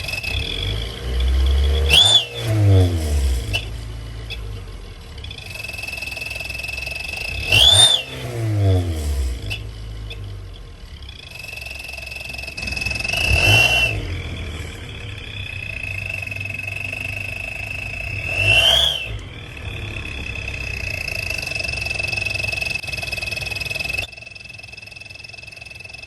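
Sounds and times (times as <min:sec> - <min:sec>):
engine and road noise: 0:00.0 - 0:26.0
high exhaust whistle: 0:00.0 - 0:26.0.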